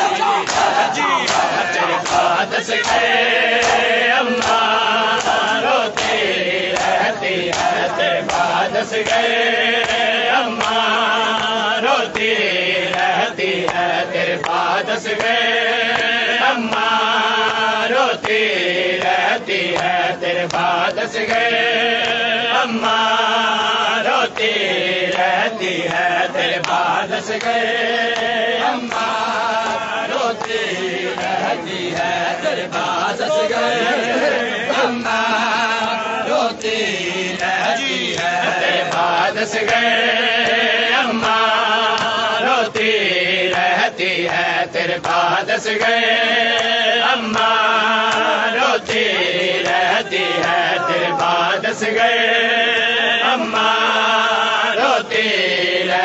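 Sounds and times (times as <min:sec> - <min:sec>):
hands slapping chests: 0:00.0 - 0:22.2, 0:24.3 - 0:33.0, 0:36.4 - 0:51.5
men chanting in unison: 0:00.0 - 0:56.0.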